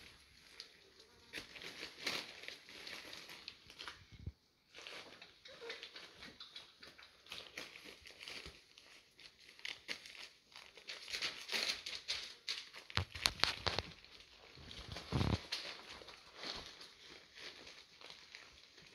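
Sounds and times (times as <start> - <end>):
newspaper rustling and crackling: 0.0 - 18.9.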